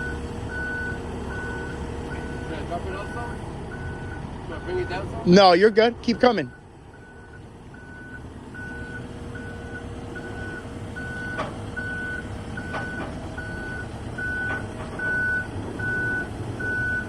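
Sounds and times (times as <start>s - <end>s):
diesel engine rumble: 0.0s - 17.0s
excavator travel alarm beeping: 0.0s - 17.0s.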